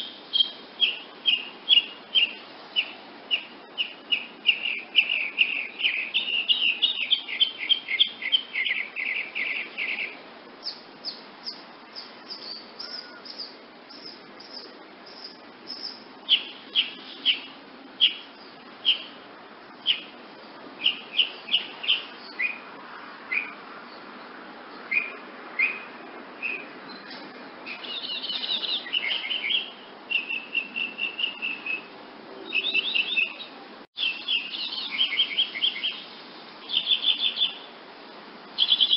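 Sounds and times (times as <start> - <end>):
hummingbird chip calls: 0.0 - 19.2, 19.8 - 20.2, 20.8 - 22.7, 27.7 - 37.7, 38.6 - 38.9.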